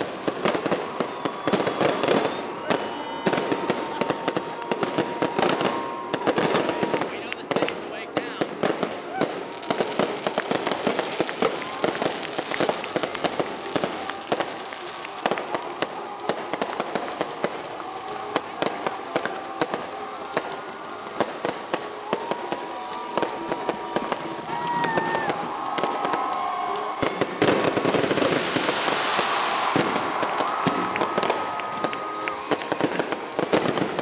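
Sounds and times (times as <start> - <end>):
fireworks popping and banging: 0.0 - 34.0.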